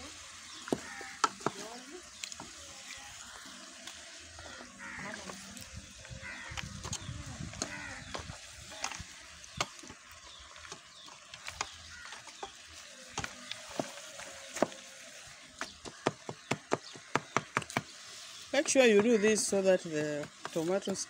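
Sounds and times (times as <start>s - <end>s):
stew sizzling: 0.0s - 21.0s.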